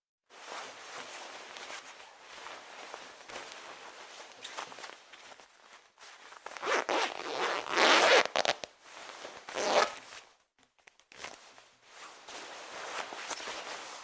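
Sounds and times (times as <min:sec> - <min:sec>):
jacket fabric rustling: 0:00.3 - 0:14.0.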